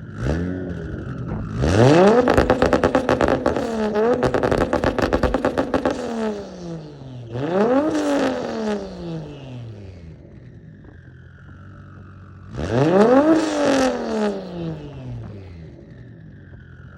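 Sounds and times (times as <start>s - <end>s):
car engine revving: 0.0s - 16.9s
exhaust crackles: 0.0s - 16.9s.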